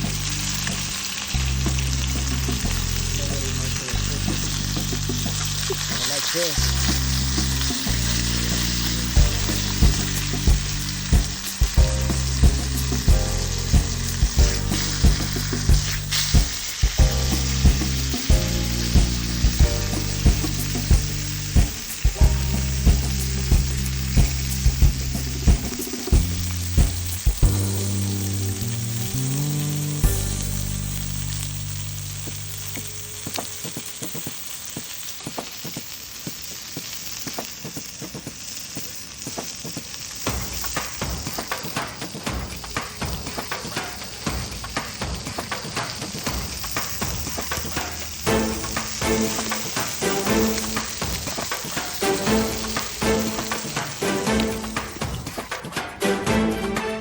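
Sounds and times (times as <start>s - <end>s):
background music with bass beat: 0.0s - 32.7s, 40.4s - 57.0s
food sizzling: 0.0s - 57.0s.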